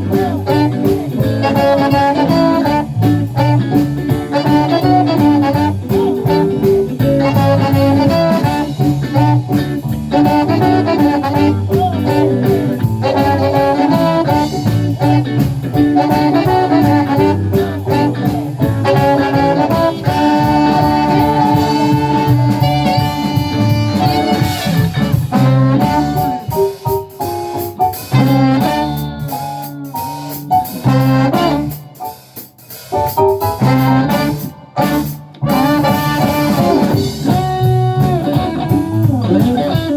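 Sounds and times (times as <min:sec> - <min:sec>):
live band playing a song: 0:00.0 - 0:39.9.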